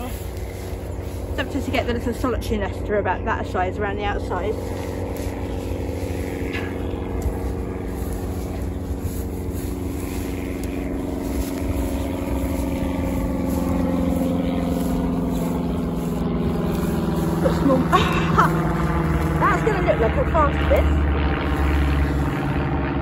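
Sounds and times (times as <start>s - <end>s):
low rumble: 0.0s - 23.0s
steady engine drone: 0.0s - 23.0s.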